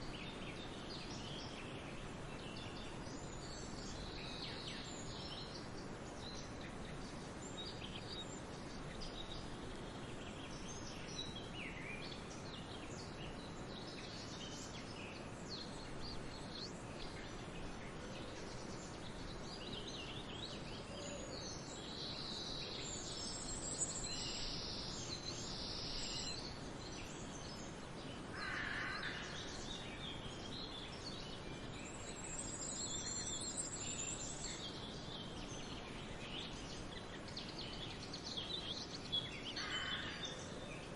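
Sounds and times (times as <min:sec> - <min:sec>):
outdoor background hiss: 0:00.0 - 0:40.9
small birds chirping and trilling: 0:00.0 - 0:40.9.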